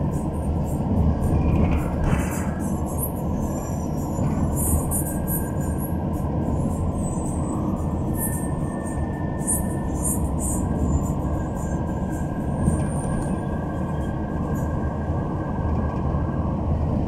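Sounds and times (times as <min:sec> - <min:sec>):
engine and tyre rumble in car: 0:00.0 - 0:17.0.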